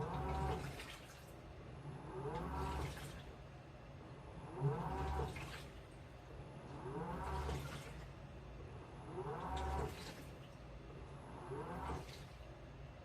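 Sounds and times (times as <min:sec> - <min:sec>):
washing machine motor whining: 0:00.0 - 0:13.0
water and laundry sloshing: 0:00.0 - 0:13.0.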